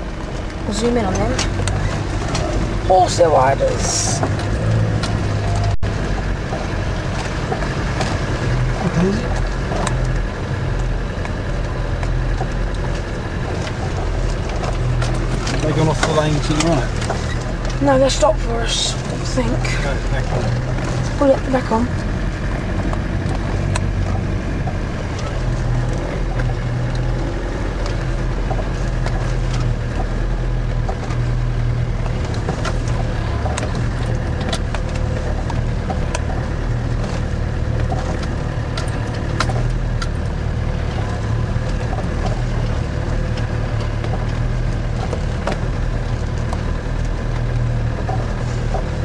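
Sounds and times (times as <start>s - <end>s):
diesel engine running: 0.0s - 49.0s
vehicle clicks and knocks: 0.0s - 49.0s.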